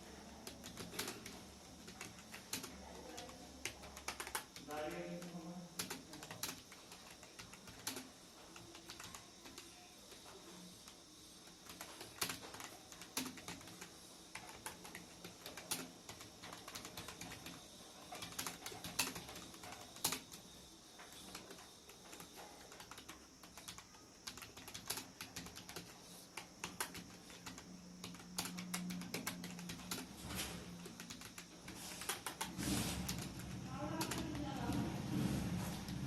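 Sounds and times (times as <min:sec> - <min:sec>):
keyboard typing: 0:00.0 - 0:36.0.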